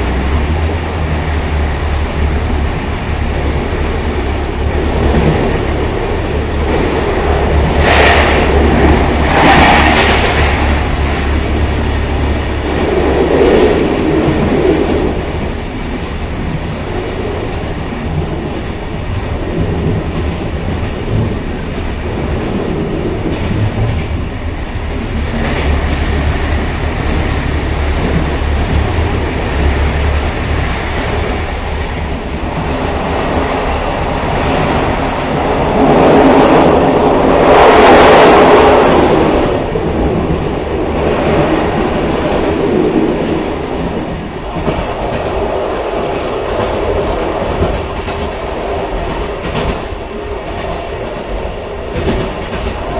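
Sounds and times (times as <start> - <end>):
railcar wheels rattling on rails: 0.0 - 52.9.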